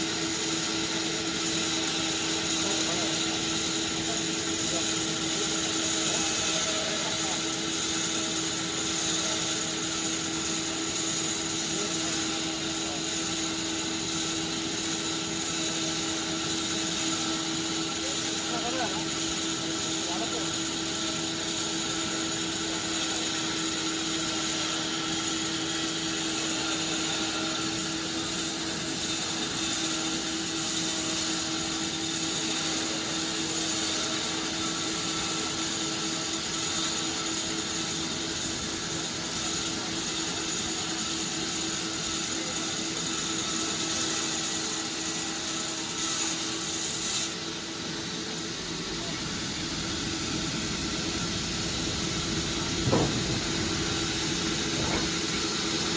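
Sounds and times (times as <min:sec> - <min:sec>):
sawmill machine hum: 0:00.0 - 0:55.9.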